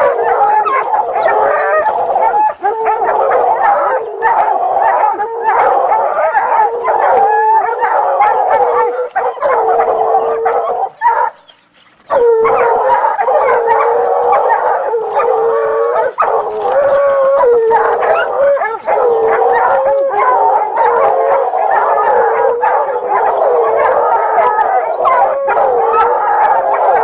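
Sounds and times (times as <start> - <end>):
hounds baying: 0.0 - 27.0.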